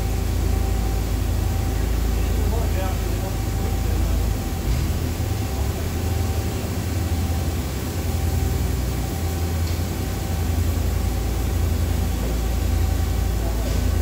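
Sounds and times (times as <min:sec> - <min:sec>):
faint steady whine: 0:00.0 - 0:14.0
machine shop equipment hum: 0:00.0 - 0:14.0.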